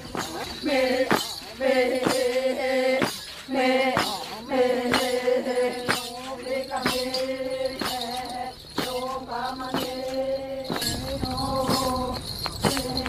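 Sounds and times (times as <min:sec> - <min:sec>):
sharp percussive beat: 0:00.0 - 0:13.0
group chanting: 0:00.2 - 0:13.0.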